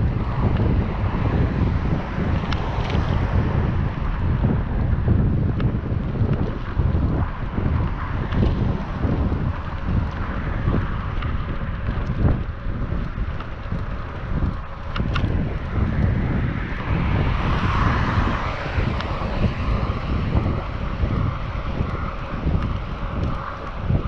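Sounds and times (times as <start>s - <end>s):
broad rushing noise: 0.0s - 24.0s
wind buffeting microphone: 0.0s - 24.0s.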